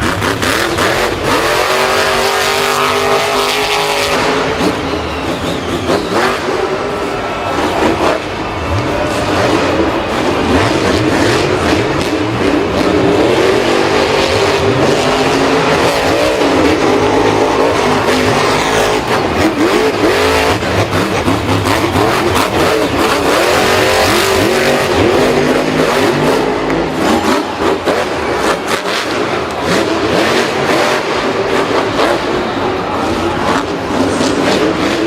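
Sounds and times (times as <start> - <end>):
racing engines revving: 0.0 - 35.0.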